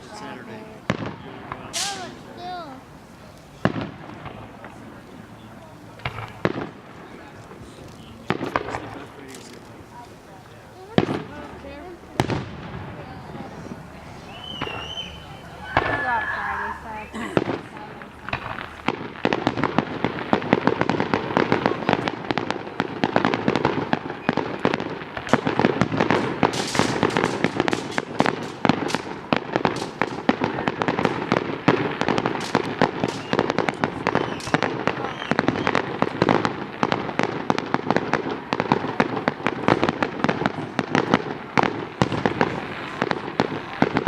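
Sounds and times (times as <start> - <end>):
fireworks bangs and pops: 0.0 - 44.0.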